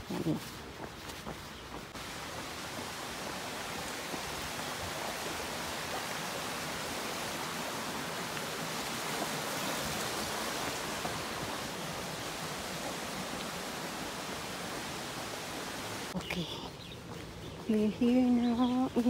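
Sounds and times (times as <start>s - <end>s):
steady rushing hiss: 0.0s - 19.0s.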